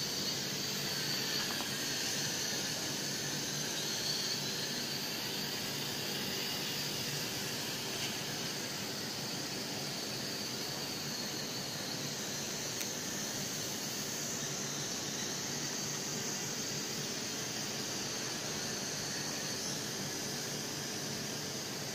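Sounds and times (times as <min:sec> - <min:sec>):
toy drone buzzing whine: 0:00.0 - 0:21.9.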